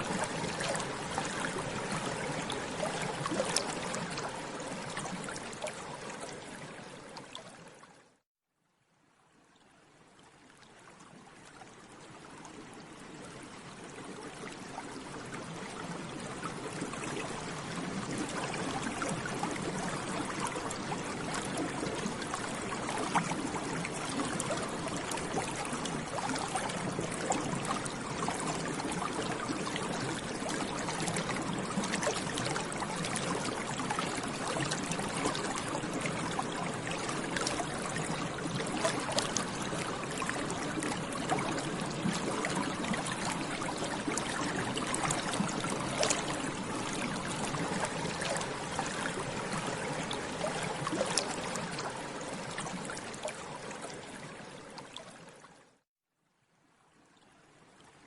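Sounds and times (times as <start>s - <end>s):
water bubbling: 0.0s - 7.6s, 14.1s - 55.3s.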